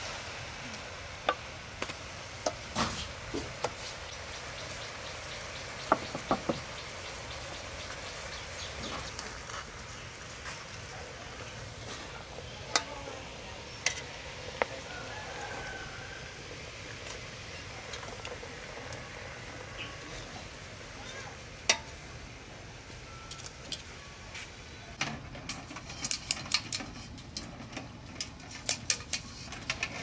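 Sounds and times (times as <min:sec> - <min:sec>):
liquid bubbling and sizzling in pot: 0:00.0 - 0:30.0.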